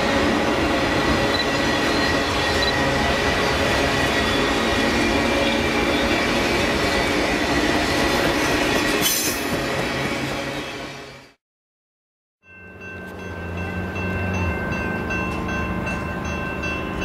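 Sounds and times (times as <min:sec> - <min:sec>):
train wheels rumbling on rail: 0:00.0 - 0:11.2, 0:13.0 - 0:17.0.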